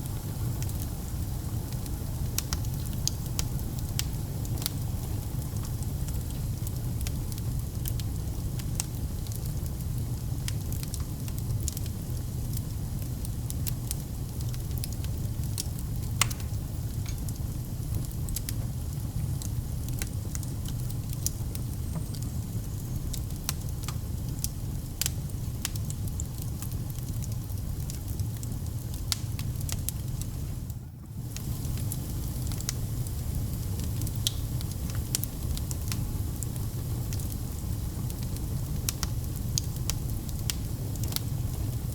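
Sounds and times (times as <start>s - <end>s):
burning logs crackling and popping: 0.0s - 41.9s
wood fire flames rumbling: 0.0s - 41.9s.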